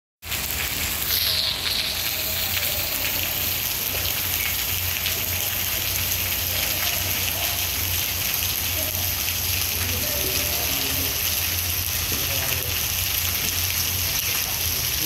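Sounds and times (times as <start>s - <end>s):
steady rain hiss: 0.2s - 15.0s.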